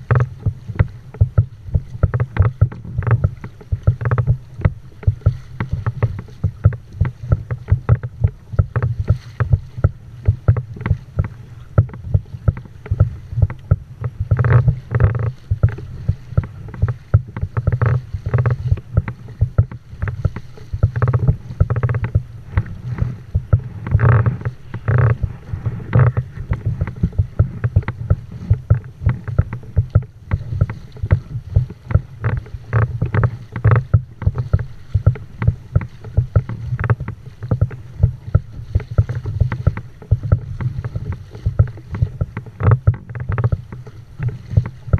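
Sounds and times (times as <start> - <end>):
water slapping against kayak hull: 0.0 - 44.9.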